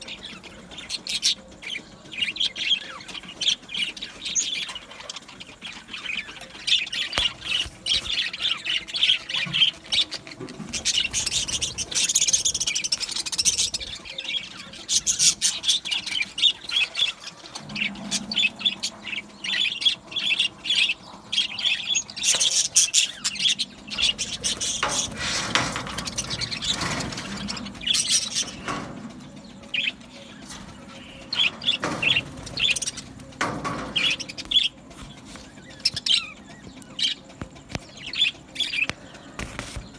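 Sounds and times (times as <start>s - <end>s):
budgerigars chirping: 0.0s - 39.6s.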